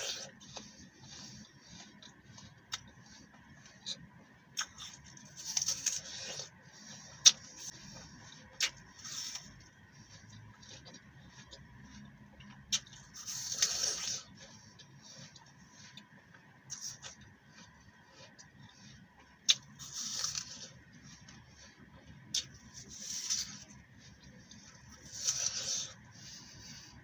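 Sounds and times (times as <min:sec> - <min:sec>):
apple being bitten and chewed: 0:00.0 - 0:27.0.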